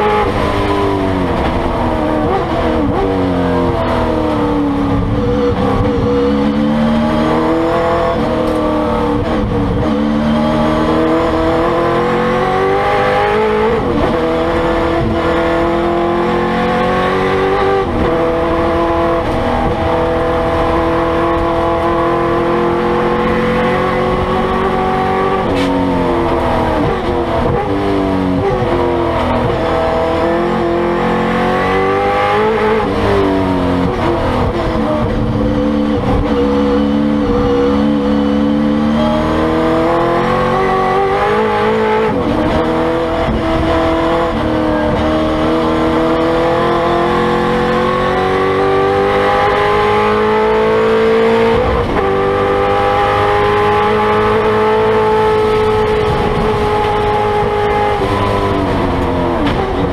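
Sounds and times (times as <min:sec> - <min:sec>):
race car engine under hard load: 0:00.0 - 0:59.9.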